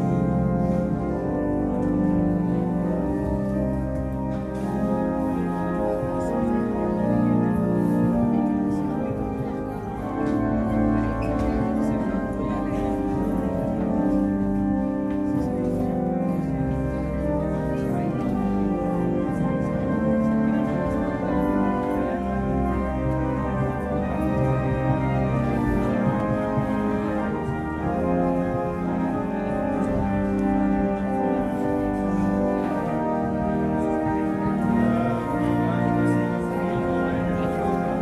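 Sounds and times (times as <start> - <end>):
church organ playing chords: 0.0 - 38.0.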